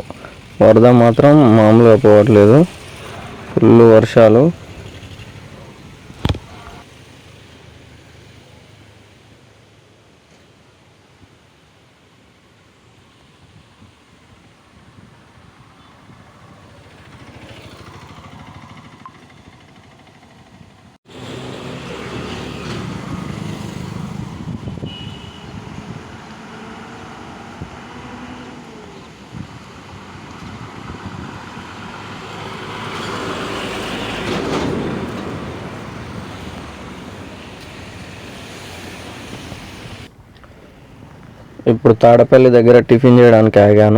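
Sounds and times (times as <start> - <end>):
truck engine and road noise: 0.0 - 43.9.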